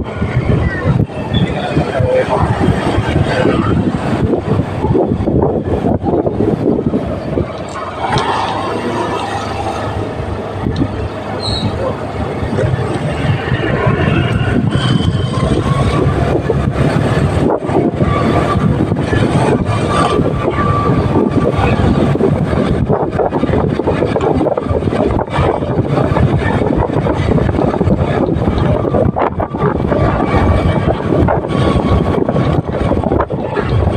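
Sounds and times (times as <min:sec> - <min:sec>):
motorcycle engine rumble: 0:00.0 - 0:33.9.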